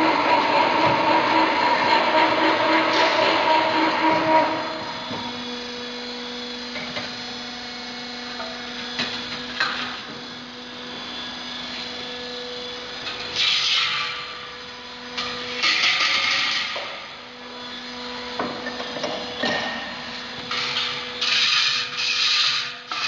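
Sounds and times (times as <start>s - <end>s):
electric motor hum: 0.0s - 21.7s.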